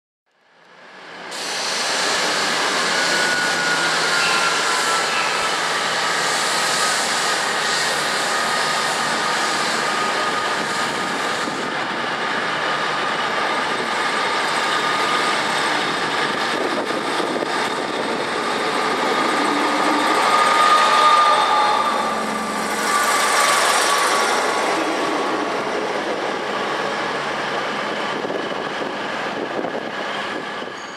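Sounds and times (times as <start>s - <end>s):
train running: 0.7s - 30.9s.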